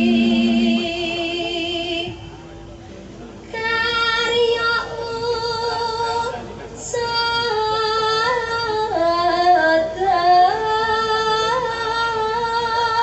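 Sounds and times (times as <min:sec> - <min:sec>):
woman singing into a microphone: 0:00.0 - 0:02.2, 0:03.5 - 0:13.0.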